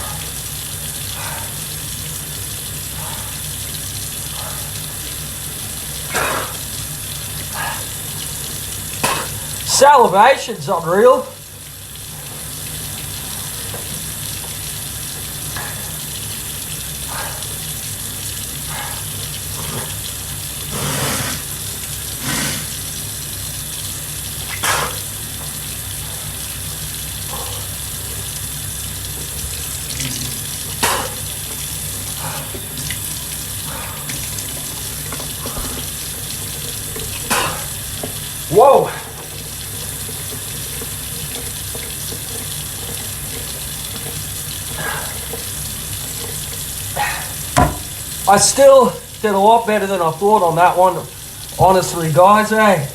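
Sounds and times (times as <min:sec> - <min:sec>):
water running from a tap: 0:00.0 - 0:52.9.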